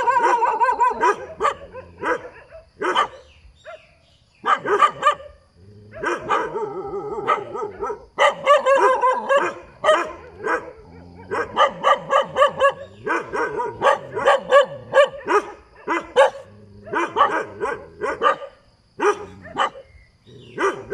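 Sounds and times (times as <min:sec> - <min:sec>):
dog barking: 0:00.0 - 0:19.9, 0:20.5 - 0:20.9.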